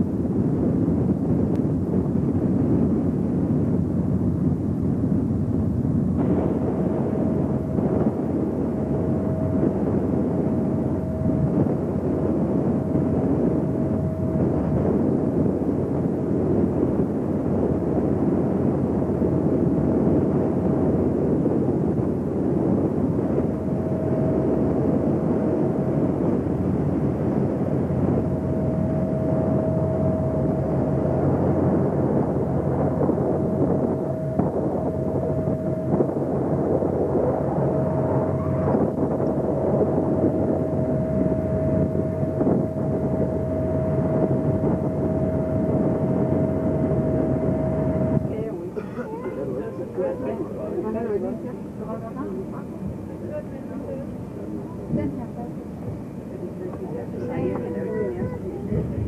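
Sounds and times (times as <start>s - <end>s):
ship engines rumbling: 0.0s - 59.0s
steady hum: 0.0s - 59.0s.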